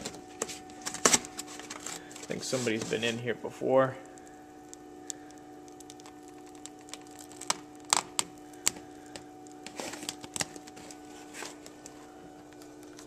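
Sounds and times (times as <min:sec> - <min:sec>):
plastic sheet peeling and crinkling: 0:00.0 - 0:03.2, 0:05.6 - 0:13.0.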